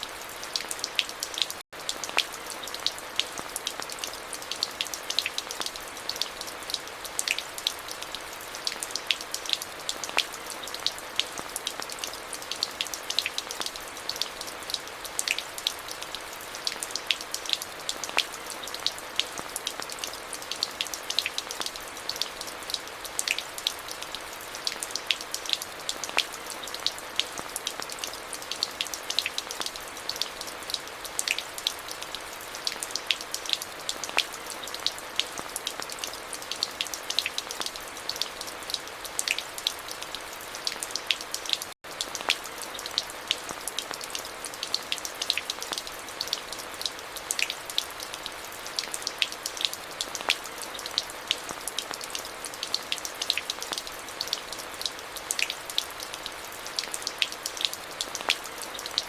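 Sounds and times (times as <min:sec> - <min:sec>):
raindrops ticking on a surface: 0:00.0 - 0:59.0.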